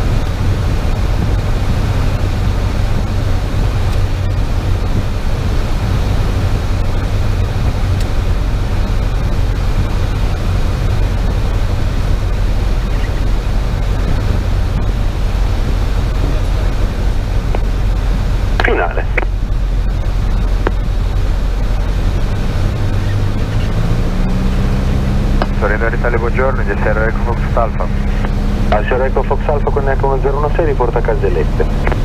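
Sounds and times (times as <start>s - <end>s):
aircraft engine droning: 0.0s - 32.0s.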